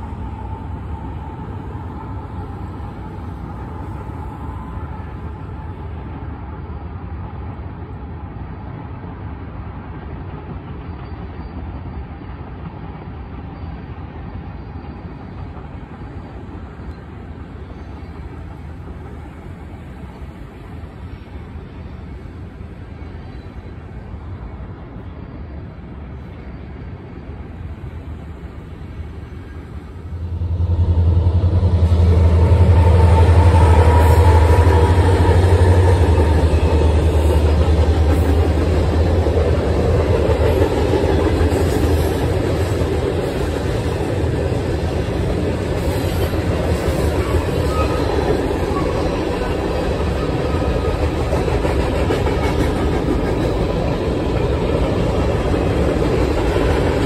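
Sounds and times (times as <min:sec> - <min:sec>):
freight train rumbling over bridge: 0:00.0 - 0:57.0.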